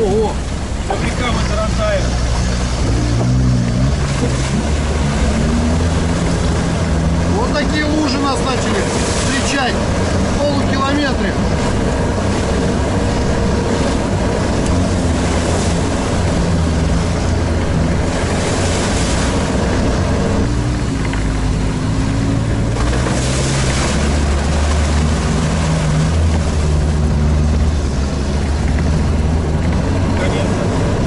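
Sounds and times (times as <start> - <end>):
diesel engine running: 0.0 - 31.0
water and mud splashing: 0.0 - 31.0.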